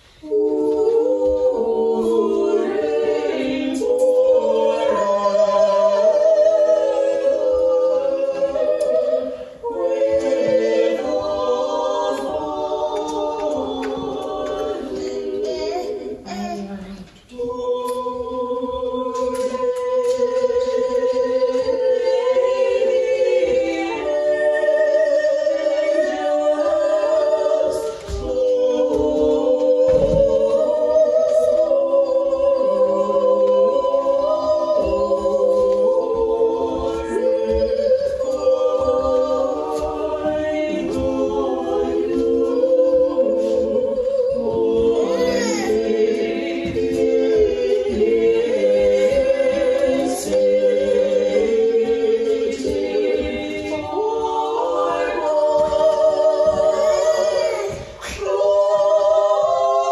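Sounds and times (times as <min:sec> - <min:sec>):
choir singing liturgical chant: 0:00.0 - 0:59.9.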